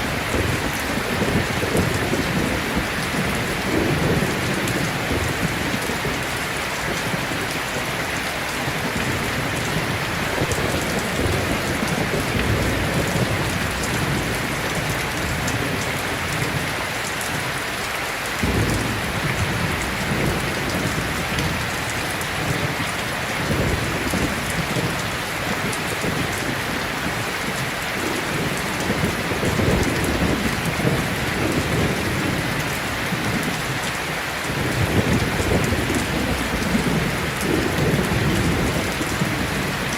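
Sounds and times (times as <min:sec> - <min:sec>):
heavy rain pouring: 0:00.0 - 0:39.9
thunder rolling: 0:00.1 - 0:07.9, 0:08.6 - 0:16.8, 0:18.4 - 0:33.6, 0:34.5 - 0:39.9.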